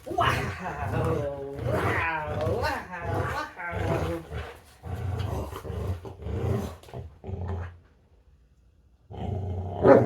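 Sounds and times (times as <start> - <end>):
dog growling in play: 0.0 - 7.8, 9.1 - 10.0.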